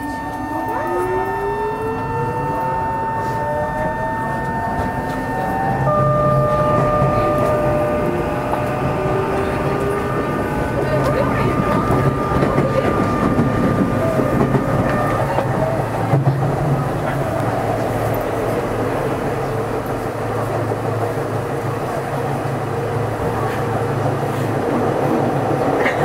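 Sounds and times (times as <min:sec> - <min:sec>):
low hum: 0:00.0 - 0:21.2
train wheels rumbling on rail: 0:00.0 - 0:26.0.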